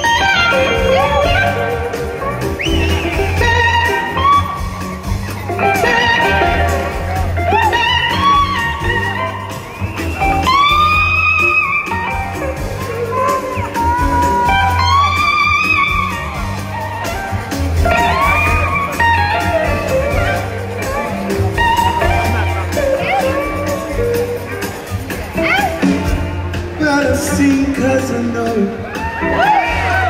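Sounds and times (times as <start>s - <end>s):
electric lead guitar bending notes: 0.0s - 30.0s
live blues-rock band: 0.0s - 30.0s.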